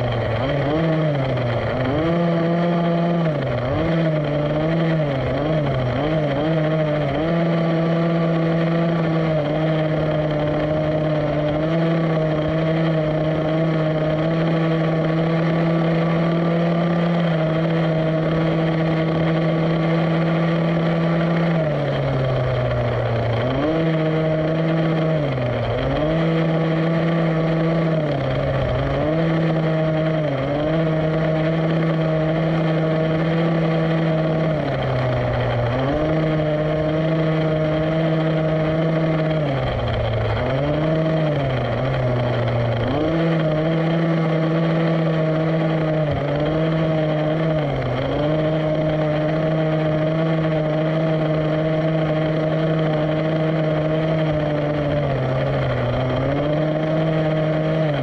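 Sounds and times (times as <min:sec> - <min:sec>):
two-stroke engine buzzing: 0:00.0 - 0:58.0.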